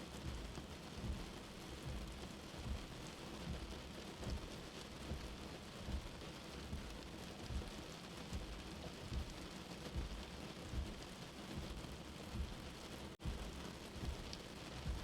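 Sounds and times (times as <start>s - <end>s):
steady rain: 0.0s - 15.0s
soft heartbeat thump: 0.2s - 15.0s.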